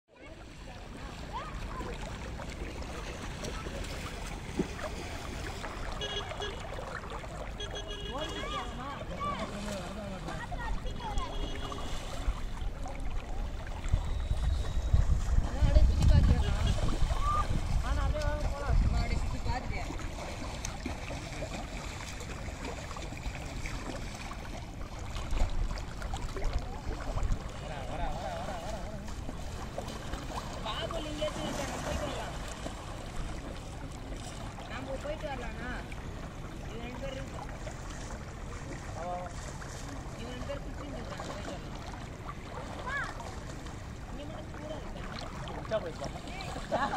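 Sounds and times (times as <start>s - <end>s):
river water lapping: 0.1s - 46.9s.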